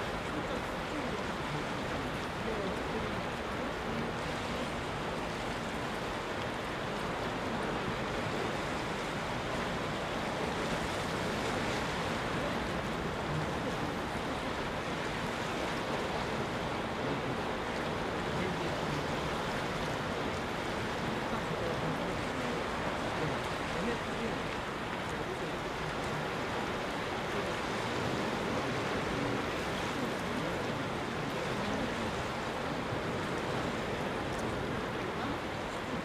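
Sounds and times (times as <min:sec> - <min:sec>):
waves washing on rocky shore: 0:00.0 - 0:36.0.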